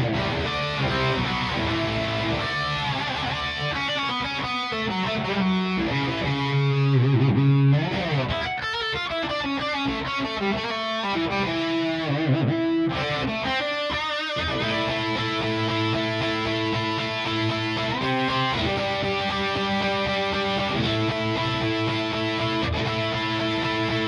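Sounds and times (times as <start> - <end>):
overdriven electric guitar lead: 0.0 - 24.0.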